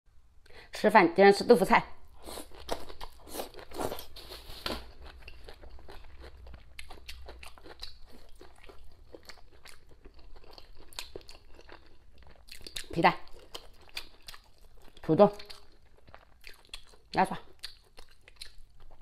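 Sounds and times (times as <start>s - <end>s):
chewing leafy greens: 2.2s - 19.0s.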